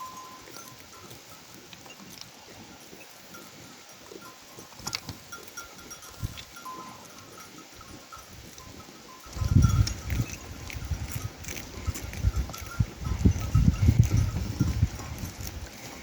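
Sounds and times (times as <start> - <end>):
faint bells clinking: 0.0 - 16.0
sheep and goats bleating: 0.0 - 16.0.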